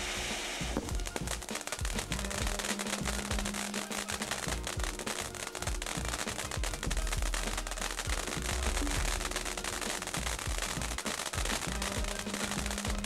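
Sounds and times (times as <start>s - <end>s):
firework sparks hissing: 0.0s - 13.0s
rapid dense crackling: 0.0s - 13.0s.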